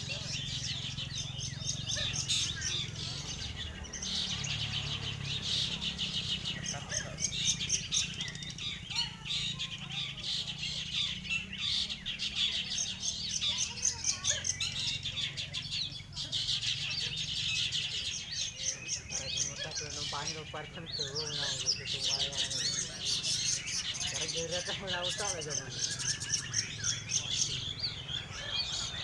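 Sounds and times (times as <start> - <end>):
bird chattering song: 0.0 - 29.0.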